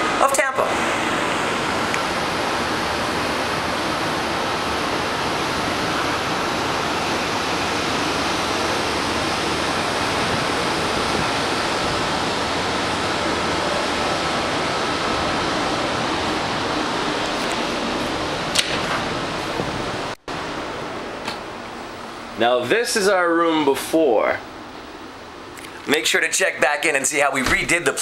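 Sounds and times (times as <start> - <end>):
steady rushing noise: 0.0 - 23.8.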